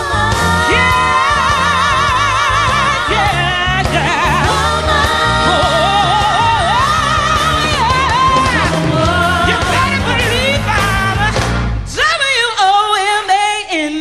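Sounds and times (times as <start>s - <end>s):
steady backing beat: 0.0s - 11.9s.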